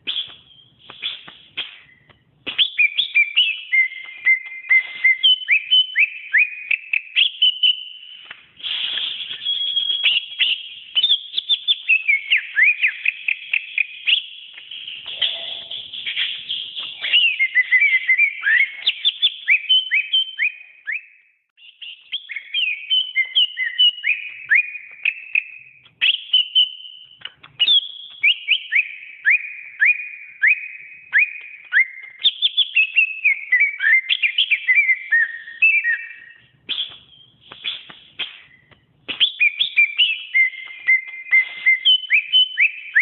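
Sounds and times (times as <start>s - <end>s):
bird singing whistled notes: 0.0s - 43.0s.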